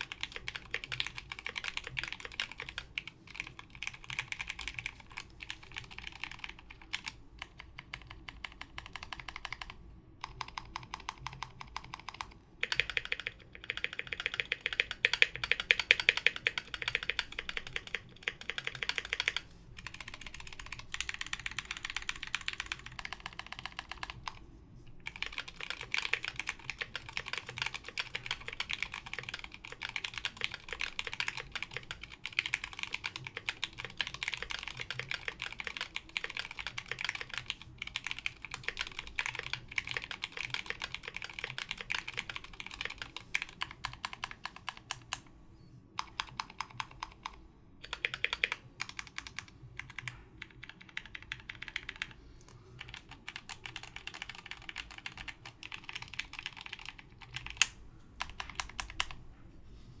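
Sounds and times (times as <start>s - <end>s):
mechanical keyboard typing: 0.0s - 24.4s, 25.0s - 45.3s, 46.0s - 59.2s.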